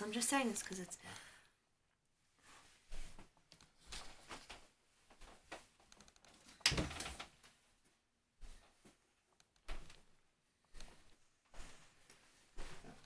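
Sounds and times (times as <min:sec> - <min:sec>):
rustles and clicks of handling: 0:02.5 - 0:13.0.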